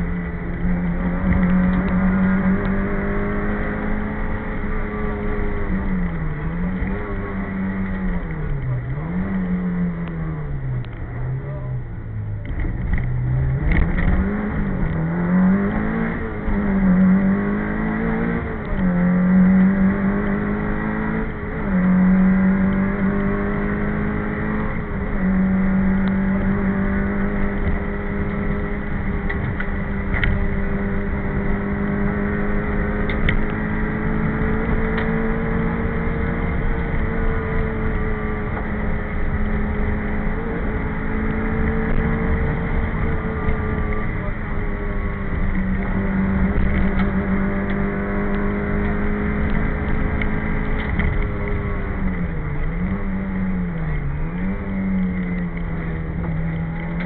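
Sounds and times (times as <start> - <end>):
car engine revving: 0.0 - 57.0
road and tyre rumble: 0.0 - 57.0.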